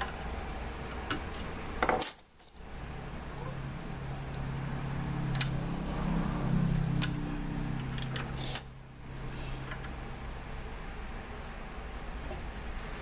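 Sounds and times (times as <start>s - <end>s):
steady low hum: 2.6s - 13.0s.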